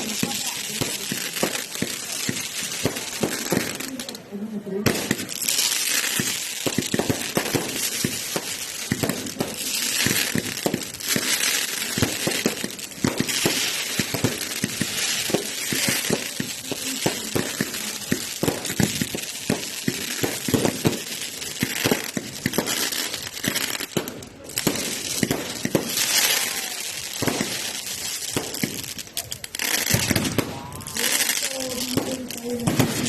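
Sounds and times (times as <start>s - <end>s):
fireworks crackling: 0.0s - 33.0s
fireworks hiss: 0.0s - 33.0s.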